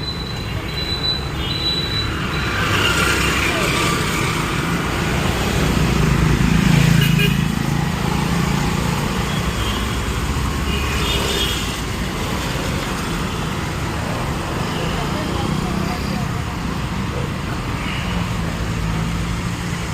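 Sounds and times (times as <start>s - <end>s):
road noise: 0.0s - 19.9s.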